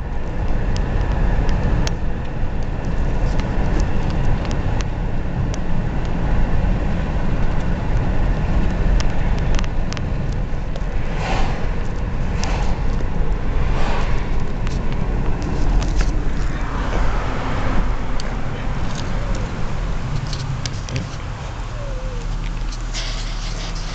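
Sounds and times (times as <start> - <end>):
car road and engine rumble: 0.0 - 23.9.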